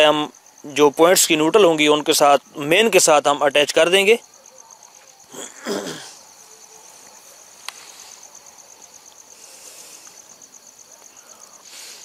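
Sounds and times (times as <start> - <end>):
cricket chirping trill: 0.0 - 12.0.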